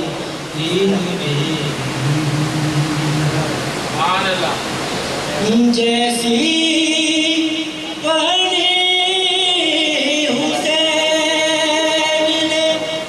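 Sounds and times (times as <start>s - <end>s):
man singing into a microphone: 0.0s - 4.0s, 5.4s - 13.0s.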